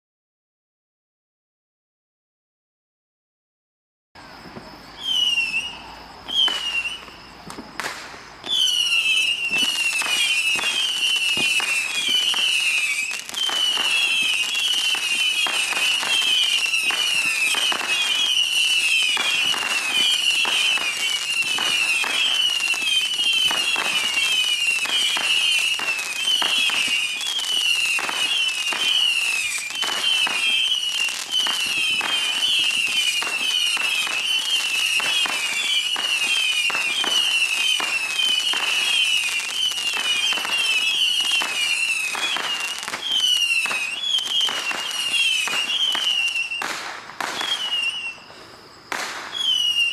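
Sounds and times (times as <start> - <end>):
whistling rockets firing: 4.9 - 49.9.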